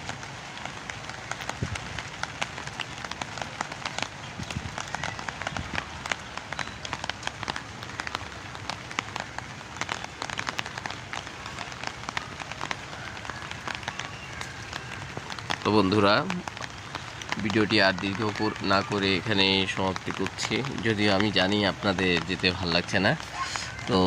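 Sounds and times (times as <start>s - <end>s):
light rain hiss: 0.0s - 24.0s
raindrops ticking on roof: 0.0s - 24.0s.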